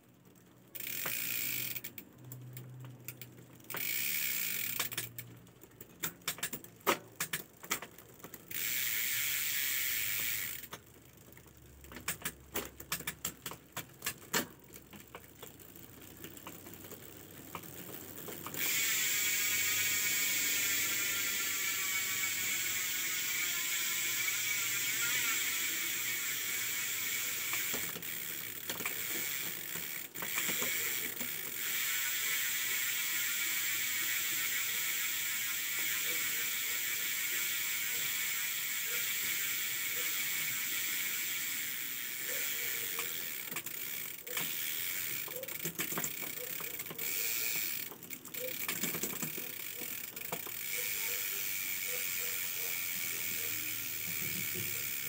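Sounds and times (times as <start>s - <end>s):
bicycle freehub ratcheting: 0.0s - 55.0s.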